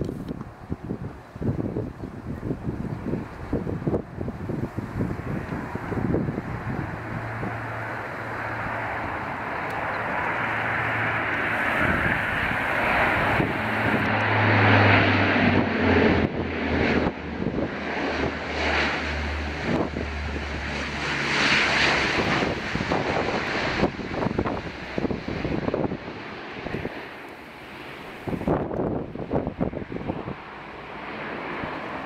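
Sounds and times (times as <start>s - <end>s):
turboprop airliner droning: 0.0s - 32.0s
wind buffeting microphone: 0.0s - 32.0s.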